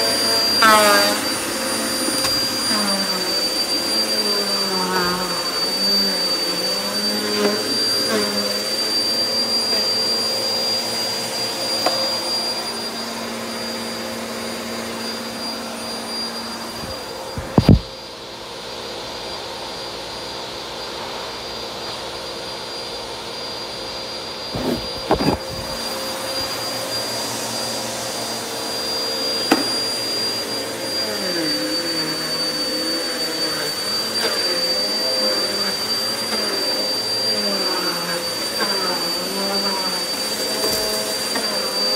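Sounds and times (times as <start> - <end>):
vacuum cleaner whining: 0.0 - 41.9.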